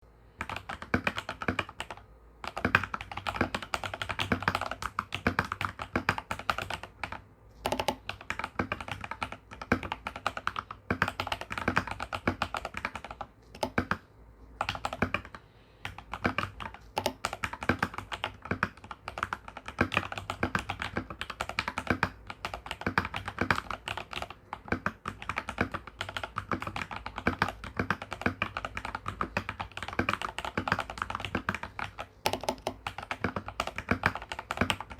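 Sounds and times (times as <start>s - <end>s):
fast mechanical keyboard typing: 0.4s - 34.9s.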